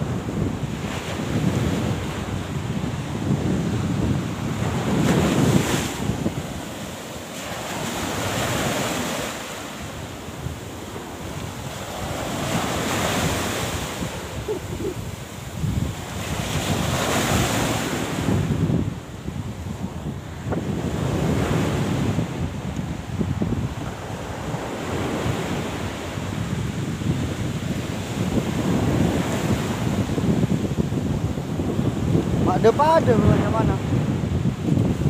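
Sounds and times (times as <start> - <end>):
surf: 0.0 - 35.0
wind buffeting microphone: 0.0 - 35.0.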